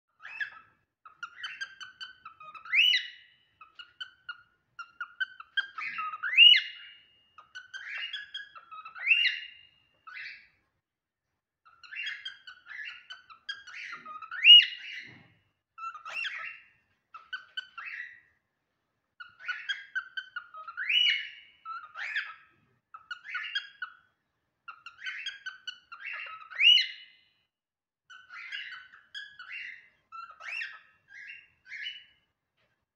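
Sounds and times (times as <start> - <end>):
cockatiel chirping and whistling: 0.2 - 10.6, 11.6 - 18.3, 19.2 - 27.3, 28.1 - 32.3.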